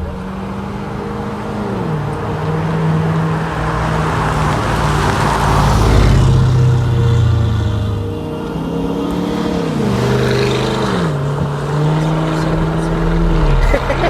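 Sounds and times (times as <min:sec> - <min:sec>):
car engine while driving: 0:00.0 - 0:14.0.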